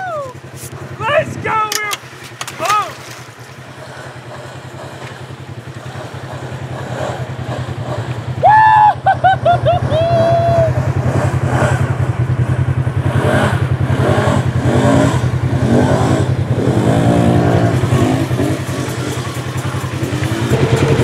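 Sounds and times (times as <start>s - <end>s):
atv engine revving: 0.0s - 21.0s
water splashing: 0.4s - 12.9s, 16.2s - 21.0s.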